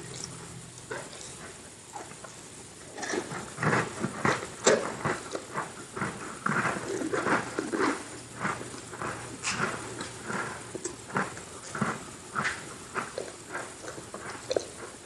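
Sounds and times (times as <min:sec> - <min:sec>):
chewing crunchy cookies: 0:00.0 - 0:15.0.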